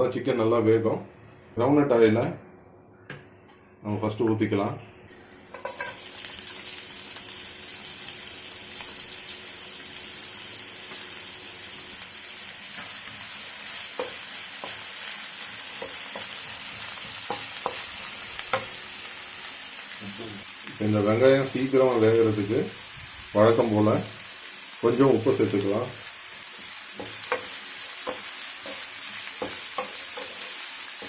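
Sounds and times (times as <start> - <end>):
onions sizzling in oil: 5.5 - 31.0.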